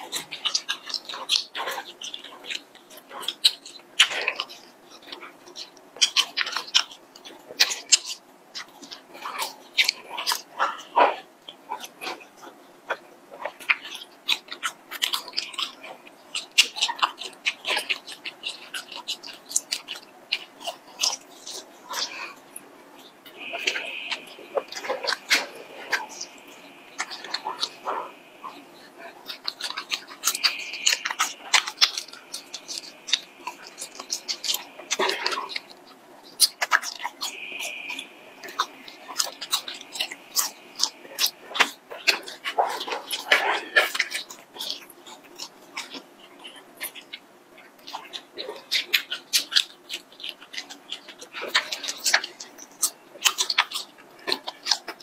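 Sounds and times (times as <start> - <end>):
close chewing and mouth smacks: 0.0 - 55.0.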